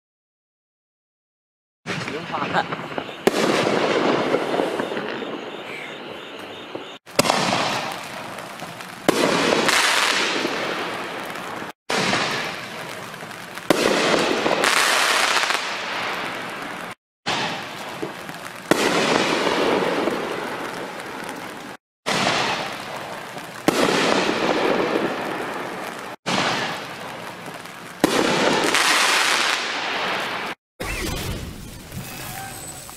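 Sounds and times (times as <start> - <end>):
firework long boom: 1.9 - 30.6.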